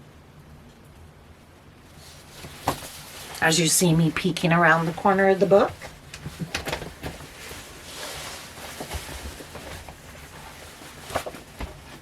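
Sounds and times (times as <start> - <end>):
paper rustling: 1.9 - 12.0.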